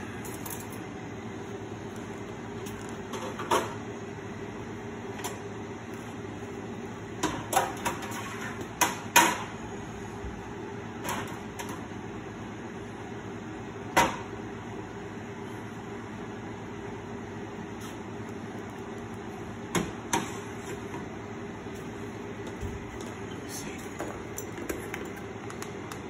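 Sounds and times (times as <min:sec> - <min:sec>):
microwave oven humming: 0:00.0 - 0:26.0.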